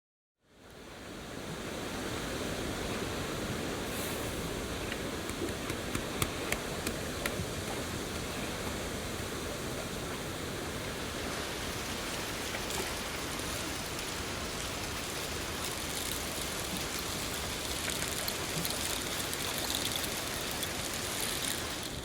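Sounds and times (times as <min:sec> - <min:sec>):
steady rain hiss: 0:00.4 - 0:22.0.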